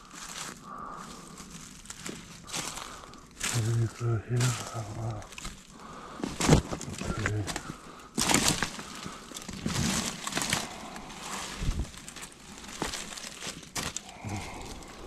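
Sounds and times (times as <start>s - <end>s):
dry leaves crunching underfoot: 0.0s - 15.0s
twigs cracking: 0.0s - 15.0s.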